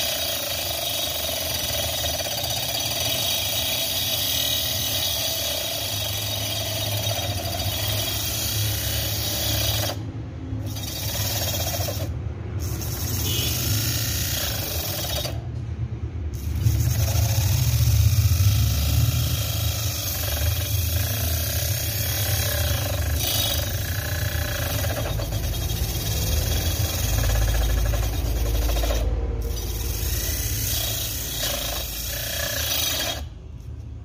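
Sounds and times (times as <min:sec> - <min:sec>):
circular saw cutting wood: 0:00.0 - 0:15.5, 0:16.4 - 0:33.4.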